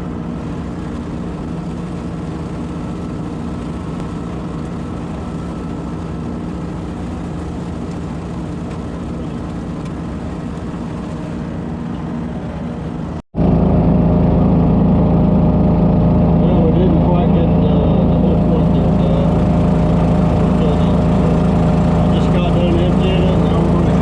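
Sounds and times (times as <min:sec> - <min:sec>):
leaf vacuum engine running: 0:00.0 - 0:24.0.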